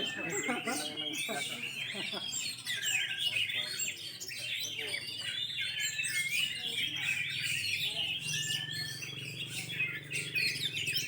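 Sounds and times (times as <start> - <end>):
birds singing whistles and chirps: 0.0 - 11.0.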